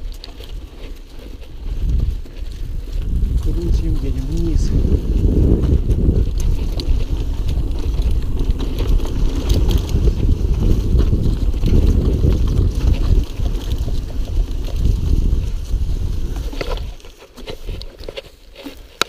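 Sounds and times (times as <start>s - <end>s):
wind on microphone: 0.0s - 18.0s
bike clicks and rattles: 0.0s - 19.0s
tyres rolling on dirt: 0.0s - 19.0s.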